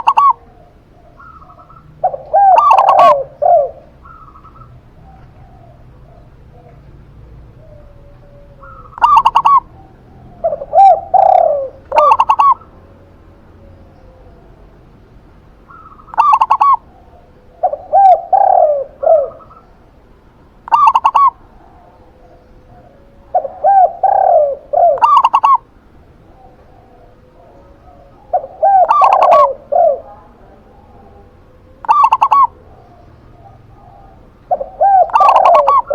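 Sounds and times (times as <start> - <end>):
doves cooing: 0.0 - 35.9.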